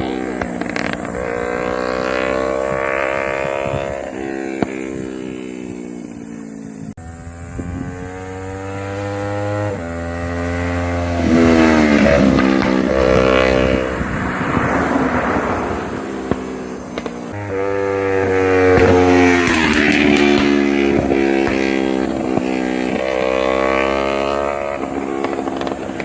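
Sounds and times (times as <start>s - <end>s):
exhaust pop: 0.0s - 5.0s, 7.5s - 26.0s
motorcycle engine revving: 0.0s - 26.0s.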